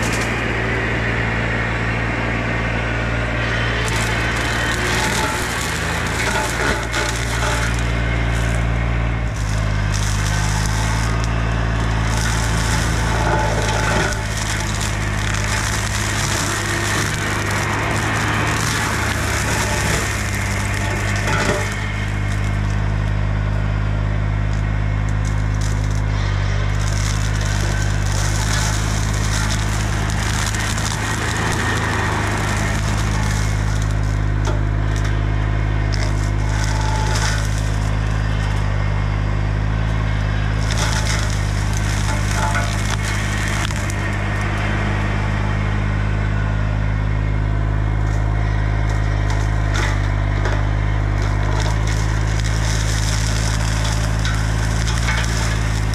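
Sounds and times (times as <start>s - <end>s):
brush mower splintering brush: 0.0s - 55.9s
excavator engine running: 0.0s - 55.9s.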